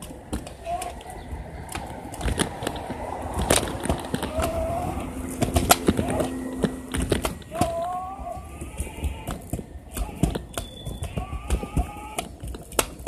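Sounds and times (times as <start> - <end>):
scooter rolling over concrete: 0.0 - 13.0
scooter squeaky chirps: 0.3 - 12.4.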